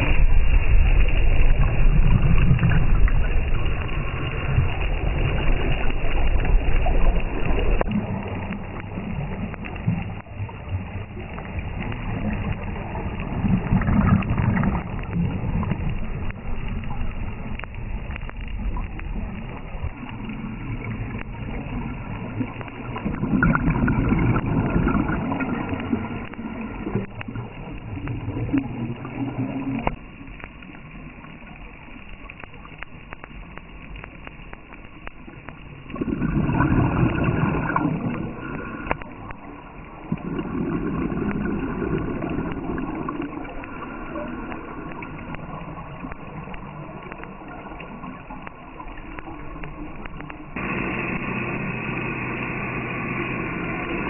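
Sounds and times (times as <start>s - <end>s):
rumbling water: 0.0s - 54.0s.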